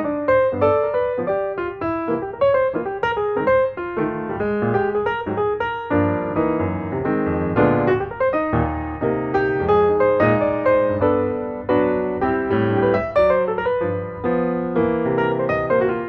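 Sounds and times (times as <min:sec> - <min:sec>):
light piano music: 0:00.0 - 0:16.0.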